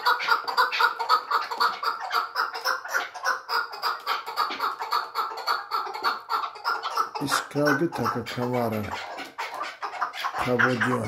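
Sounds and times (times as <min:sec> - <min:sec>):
partridge clucking calls: 0:00.0 - 0:11.0.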